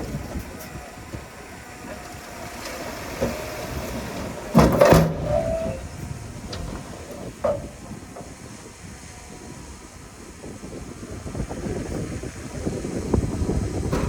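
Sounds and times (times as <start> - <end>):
heavy earthmoving machinery: 0.0 - 14.0.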